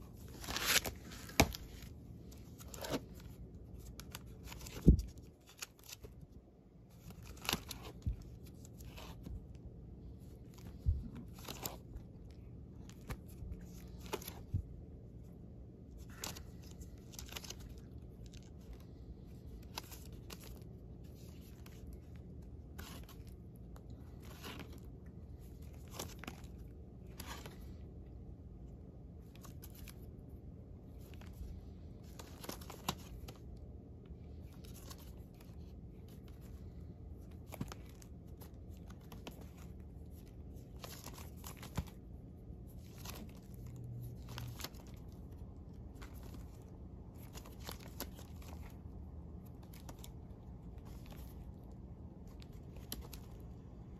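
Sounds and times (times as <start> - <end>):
plastic sleeves crinkling: 0.0 - 28.1, 29.0 - 53.9.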